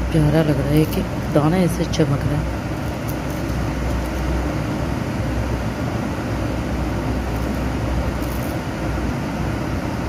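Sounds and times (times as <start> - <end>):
fan humming: 0.0 - 10.0.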